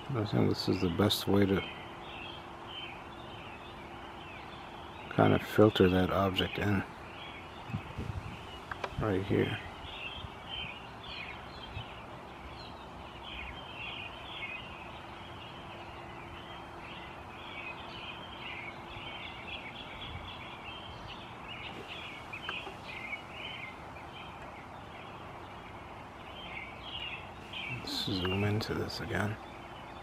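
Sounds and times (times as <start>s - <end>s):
birds chirping: 0.0s - 30.0s
faint steady hum: 0.0s - 30.0s.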